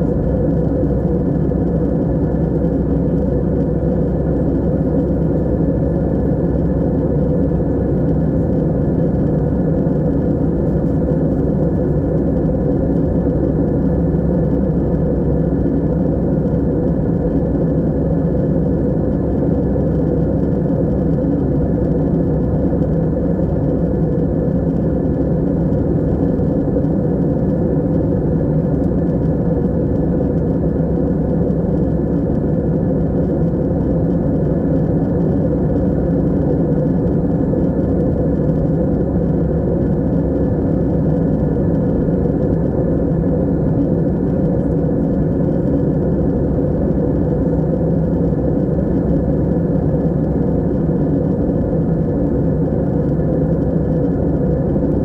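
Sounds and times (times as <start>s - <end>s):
aeroplane engine and airflow drone: 0.0s - 55.0s.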